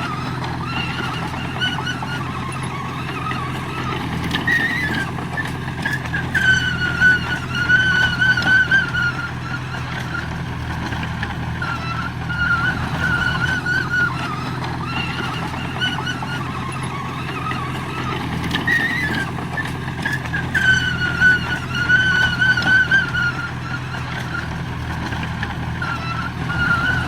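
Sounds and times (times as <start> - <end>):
heavy machine engine drone: 0.0 - 27.0
high wavering squeal: 0.0 - 27.0.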